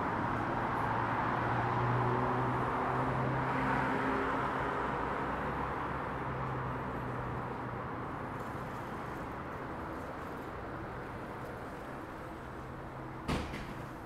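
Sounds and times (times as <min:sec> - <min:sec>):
passing vehicle engine hum: 0:00.0 - 0:13.2.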